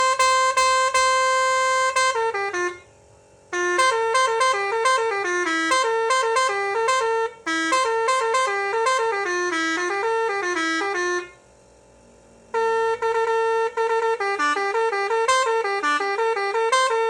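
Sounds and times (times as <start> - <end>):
trumpet horn playing a melody: 0.0 - 2.9, 3.5 - 11.4, 12.5 - 17.0.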